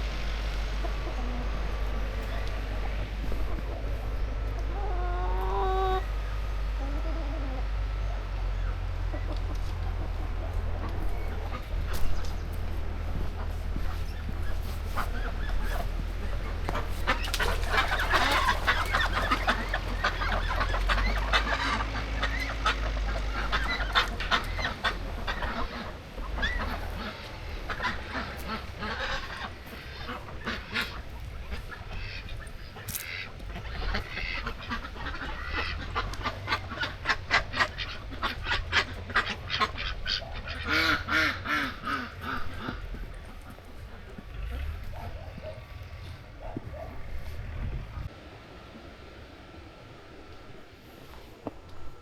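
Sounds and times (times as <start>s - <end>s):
fowl calling: 0.0s - 48.1s
steady low rumble: 0.0s - 52.0s.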